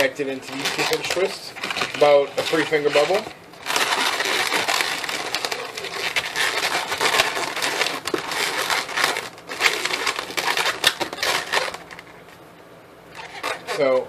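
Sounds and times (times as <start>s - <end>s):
balloons squeaking and rubbing: 0.0s - 12.3s, 13.1s - 14.0s.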